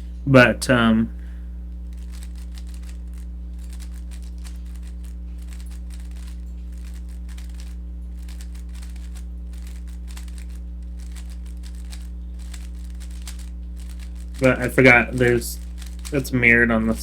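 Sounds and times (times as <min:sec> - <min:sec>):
electrical hum: 0:00.0 - 0:17.0
puzzle cube plastic clicking: 0:01.9 - 0:16.4.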